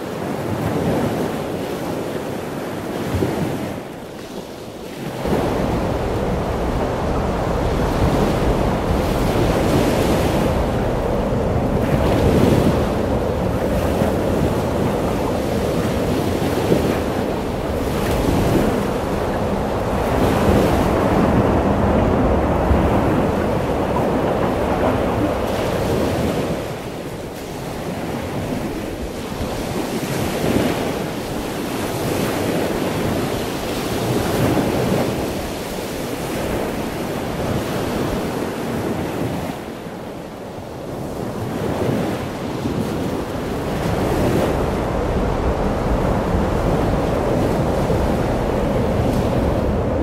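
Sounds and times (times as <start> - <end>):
waves breaking: 0.0 - 50.0
wind buffeting microphone: 0.0 - 50.0.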